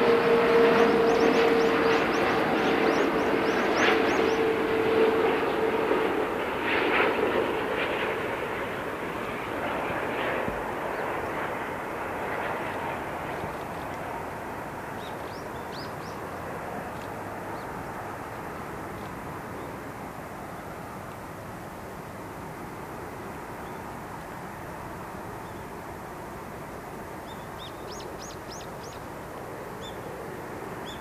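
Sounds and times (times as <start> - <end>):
jet engine whine: 0.0 - 31.0
jet engines rushing rumble: 0.0 - 31.0.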